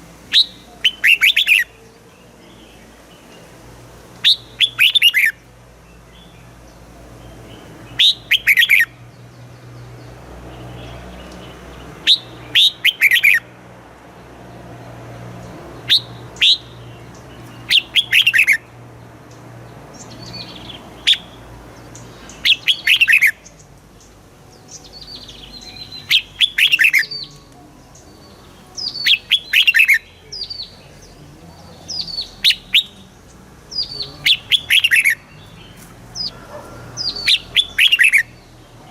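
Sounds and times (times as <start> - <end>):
bird singing whistled notes: 0.3 - 3.4, 4.2 - 6.6, 7.2 - 9.0, 10.8 - 13.5, 15.8 - 18.7, 19.9 - 38.9.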